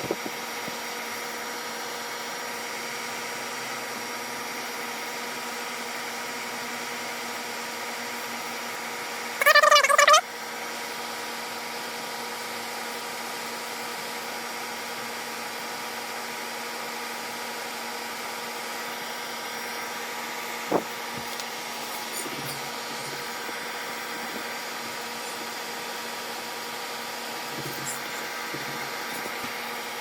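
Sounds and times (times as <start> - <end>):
dehumidifier fan whirring: 0.0 - 30.0.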